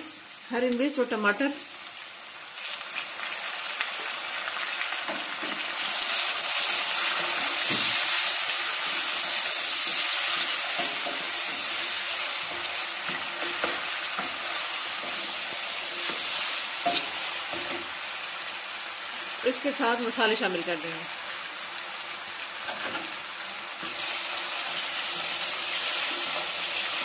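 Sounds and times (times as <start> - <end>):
vegetables sizzling in a pan: 0.0 - 27.0.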